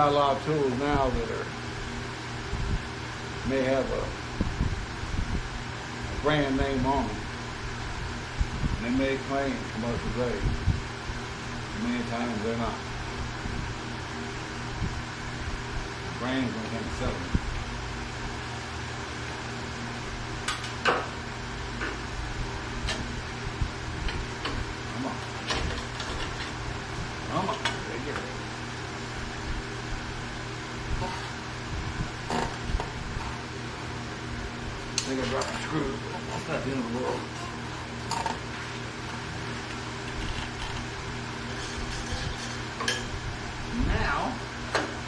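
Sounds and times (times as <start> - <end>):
box fan humming: 0.0 - 45.0.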